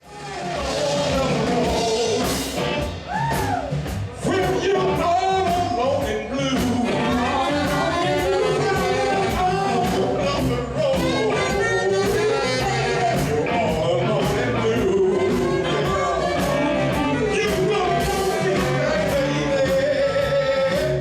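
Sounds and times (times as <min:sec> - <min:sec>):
person singing: 0:00.0 - 0:03.6, 0:04.2 - 0:21.0
live rock blues band: 0:00.0 - 0:21.0
steady drum beat: 0:00.0 - 0:21.0.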